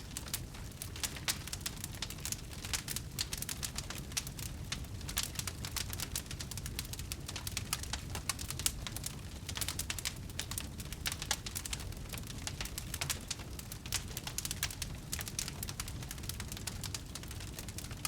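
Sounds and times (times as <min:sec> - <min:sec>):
campfire wood crackling and popping: 0:00.0 - 0:18.0
low rumble of flame: 0:00.0 - 0:18.0.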